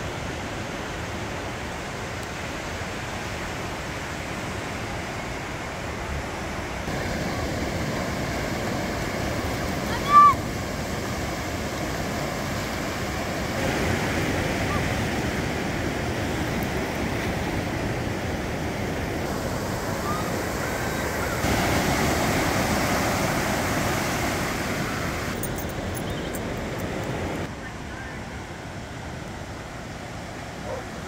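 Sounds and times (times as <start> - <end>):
ocean surf on beach: 0.0 - 31.0.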